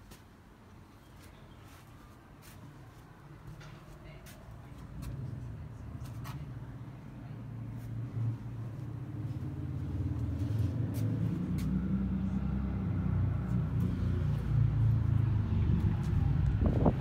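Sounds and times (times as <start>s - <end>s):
vehicle engine rumbling: 1.3s - 17.0s.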